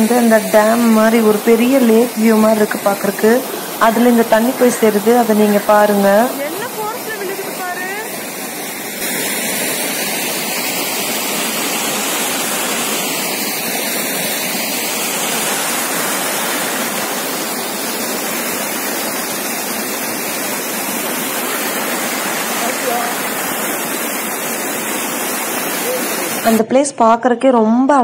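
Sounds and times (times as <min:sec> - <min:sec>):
water pouring over a weir: 0:00.0 - 0:26.6.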